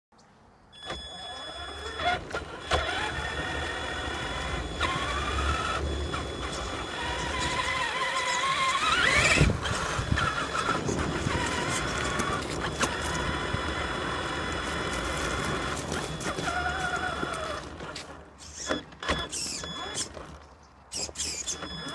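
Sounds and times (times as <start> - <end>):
toy truck electric motor whining: 0.8 - 21.9
wheels knocking over sidewalk joints: 1.6 - 21.9.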